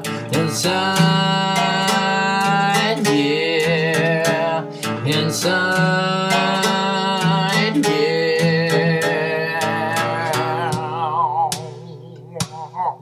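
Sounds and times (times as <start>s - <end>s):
hi-hat beat: 0.0s - 13.0s
song with guitar: 0.0s - 13.0s.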